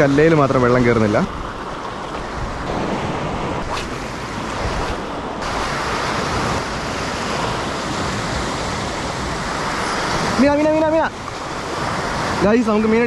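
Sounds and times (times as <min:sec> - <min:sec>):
waves breaking on rocks: 0:00.0 - 0:13.0.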